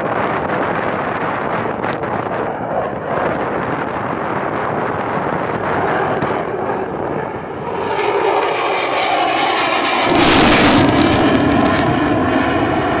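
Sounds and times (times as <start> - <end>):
jet passing overhead: 0.0 - 13.0.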